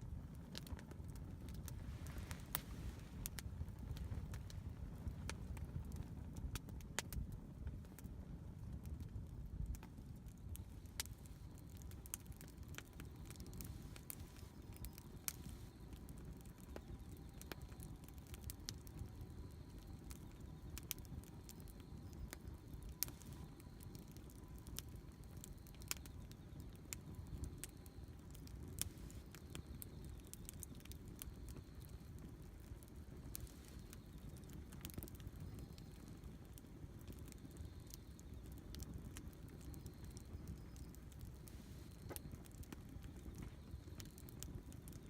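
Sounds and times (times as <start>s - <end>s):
campfire crackling and popping: 0.0s - 45.0s
low steady fire rumble: 0.0s - 45.0s.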